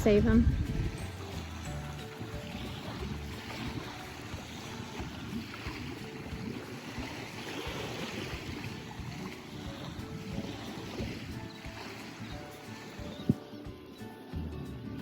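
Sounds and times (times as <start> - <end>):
small waves lapping at shore: 0.0 - 15.0
wind buffeting the microphone: 0.0 - 15.0.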